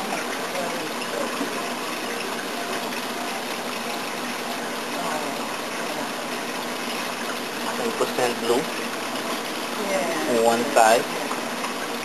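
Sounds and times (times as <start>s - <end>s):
pump humming: 0.0s - 12.0s
water rushing and splashing: 0.0s - 12.0s.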